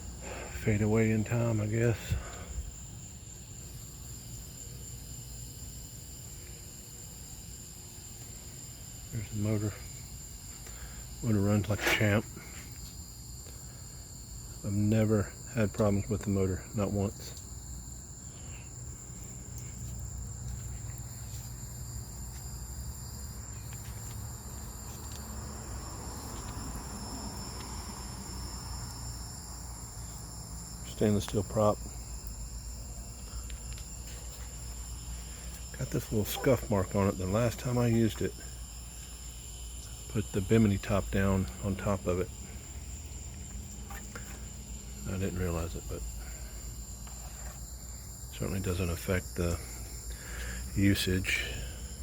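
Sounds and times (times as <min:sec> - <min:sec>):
high-pitched insect chorus: 0:00.0 - 0:52.0.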